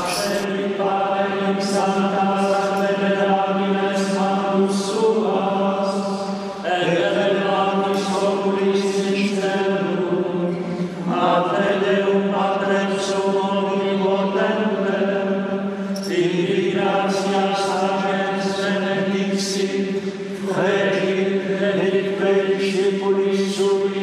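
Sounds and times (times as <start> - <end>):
male voices chanting plainchant: 0.0 - 24.0.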